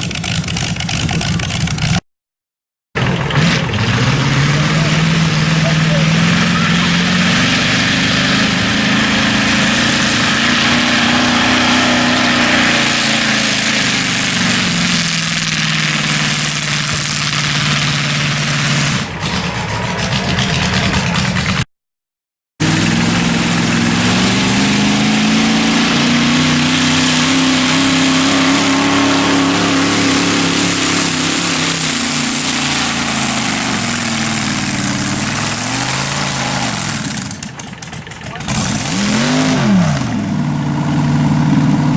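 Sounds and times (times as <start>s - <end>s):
tractor engine revving loud: 0.0s - 2.0s, 3.0s - 21.7s, 22.6s - 41.9s.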